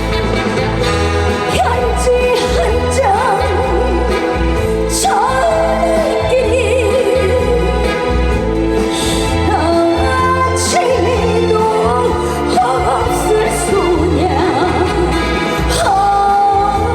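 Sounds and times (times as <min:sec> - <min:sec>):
backing music with pulsing bass: 0:00.0 - 0:16.9
woman singing with vibrato: 0:01.2 - 0:16.9.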